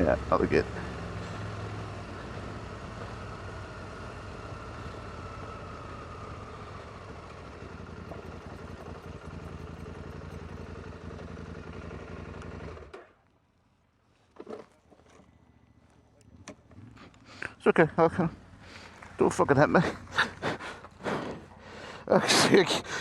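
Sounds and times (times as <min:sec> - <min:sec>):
motorcycle engine idling: 0:00.0 - 0:13.1, 0:15.0 - 0:23.0.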